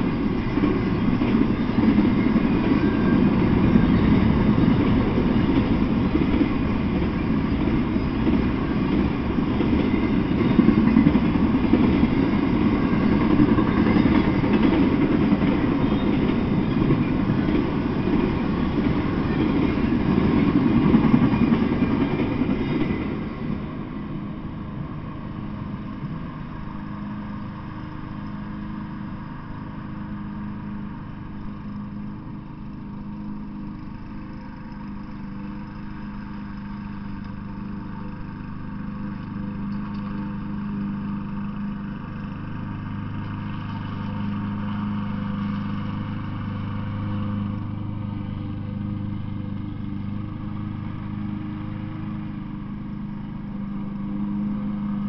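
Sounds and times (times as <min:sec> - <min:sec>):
engine drone with low hum: 0:00.0 - 0:55.0.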